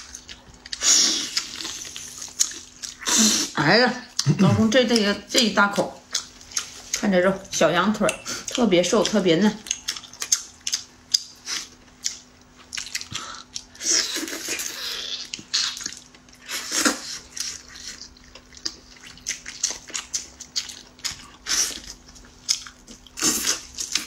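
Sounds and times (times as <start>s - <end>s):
wet chewing and lip-smacking: 0.0s - 3.2s, 6.0s - 7.0s, 8.0s - 24.0s.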